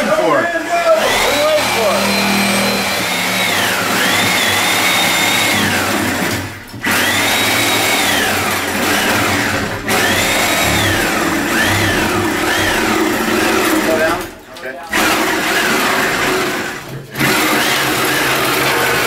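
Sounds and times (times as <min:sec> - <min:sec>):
reciprocating saw cutting wood: 0:00.0 - 0:19.0.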